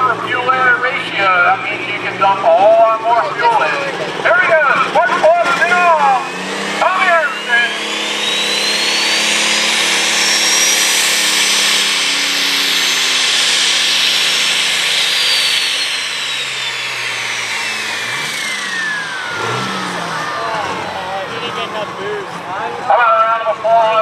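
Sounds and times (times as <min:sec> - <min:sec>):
high turbo whine: 0:00.0 - 0:24.0
tractor engine under full load: 0:00.0 - 0:24.0.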